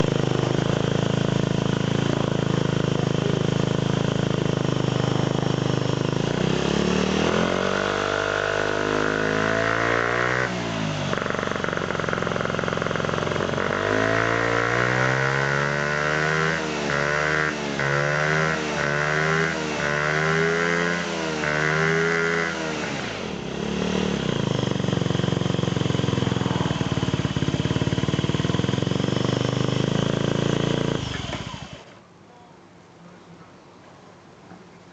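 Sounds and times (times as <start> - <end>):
scooter engine idling and revving: 0.0 - 32.0.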